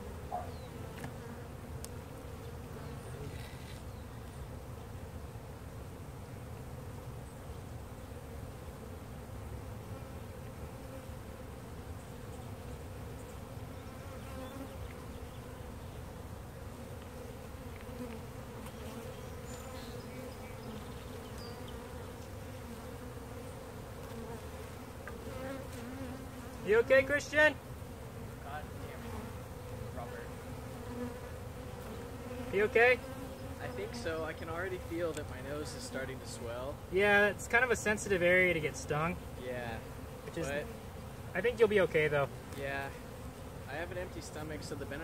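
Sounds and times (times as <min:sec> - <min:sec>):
bee swarm buzzing: 0:00.0 - 0:45.0.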